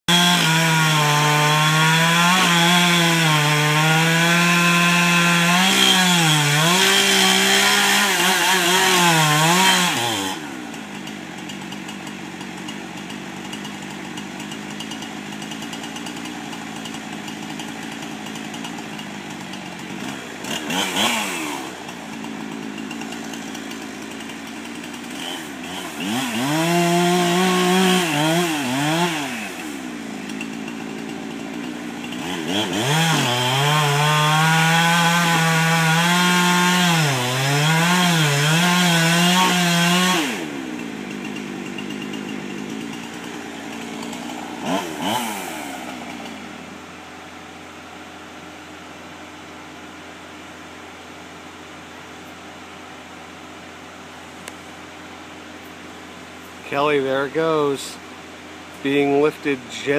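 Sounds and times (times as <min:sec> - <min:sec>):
chainsaw cutting: 0:00.0 - 0:59.9.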